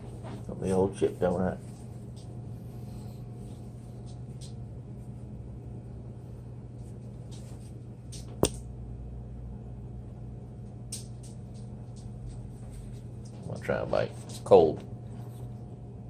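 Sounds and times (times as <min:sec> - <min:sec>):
low mains hum: 0:00.0 - 0:16.0.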